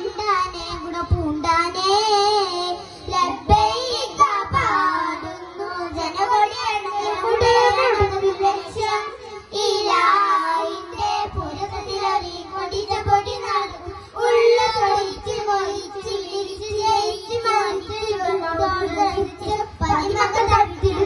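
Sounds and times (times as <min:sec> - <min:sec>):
boys singing into microphones: 0:00.0 - 0:21.0.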